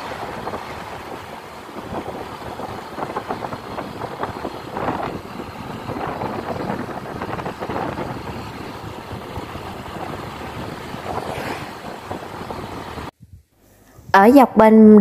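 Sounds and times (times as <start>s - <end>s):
scooter engine and tyres: 0.0s - 13.1s
wind rush on microphone: 0.0s - 14.2s.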